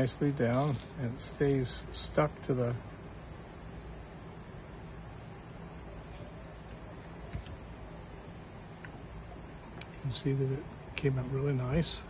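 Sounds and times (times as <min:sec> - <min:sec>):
crickets chirring: 0:00.0 - 0:12.0
low steady hum: 0:00.0 - 0:12.0.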